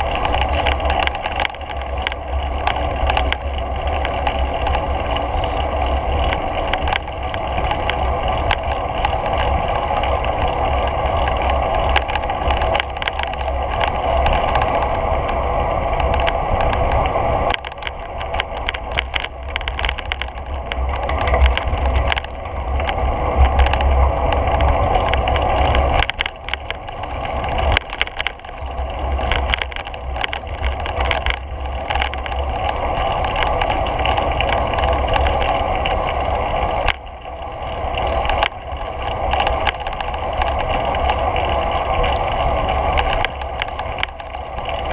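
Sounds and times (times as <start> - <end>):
bicycle tyre and frame noise: 0.0 - 44.9
rattles and clicks: 0.0 - 44.9
wind rumble on microphone: 0.0 - 44.9.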